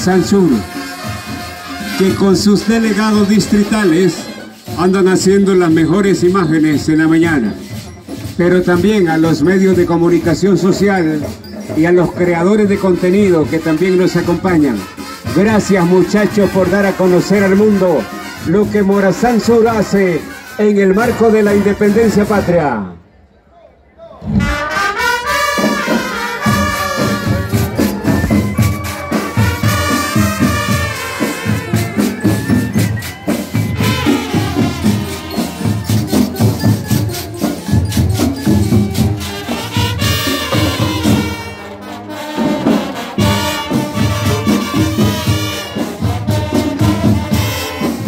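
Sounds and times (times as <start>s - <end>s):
marching band playing latin tune: 0.0s - 23.0s, 24.2s - 48.0s.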